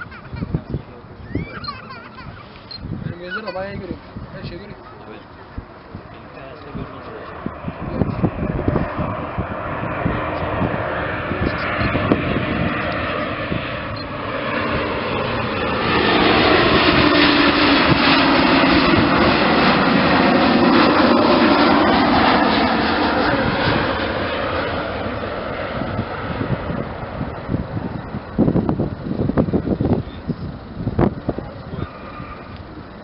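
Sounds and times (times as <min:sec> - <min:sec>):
airliner jet engines whine: 0:00.0 - 0:33.0.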